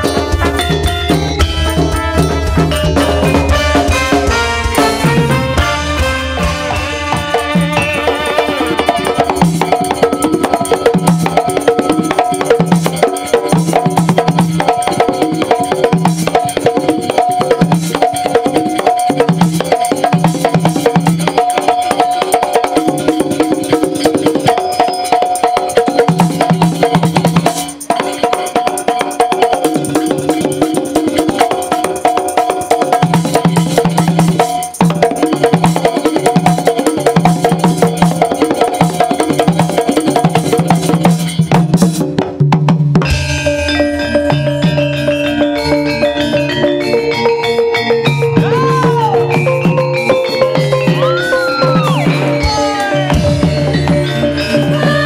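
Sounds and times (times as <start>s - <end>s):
gamelan music over pa: 0.0s - 55.0s.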